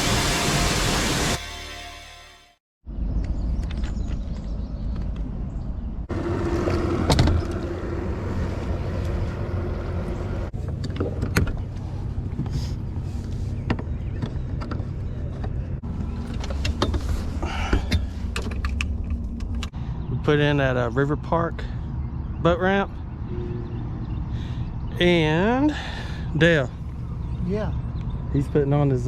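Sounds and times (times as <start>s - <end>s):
engine rumbling: 2.9s - 29.0s.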